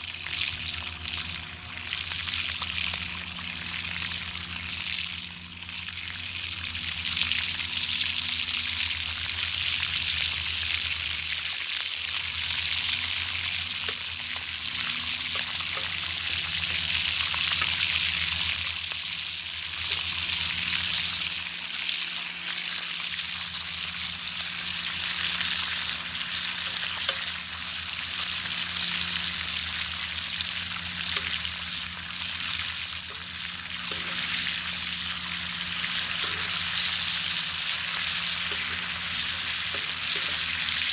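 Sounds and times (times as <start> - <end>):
bacon sizzling in a pan: 0.0 - 40.9
low steady hum: 0.0 - 40.9.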